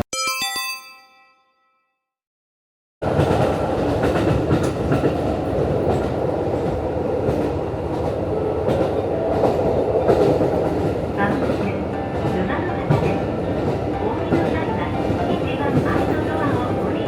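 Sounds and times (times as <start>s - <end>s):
railcar engine and wheels rumble: 3.0s - 17.0s.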